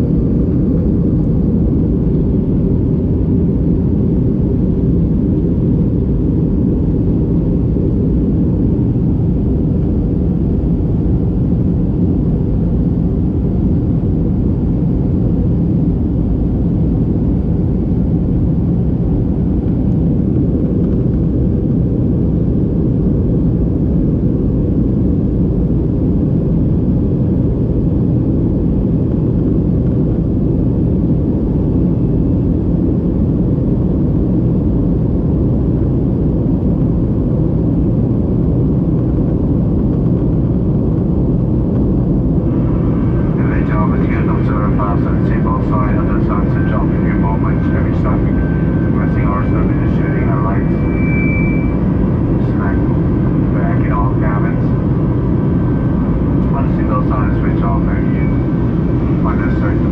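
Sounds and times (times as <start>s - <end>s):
jet engine cabin rumble: 0.0s - 59.9s.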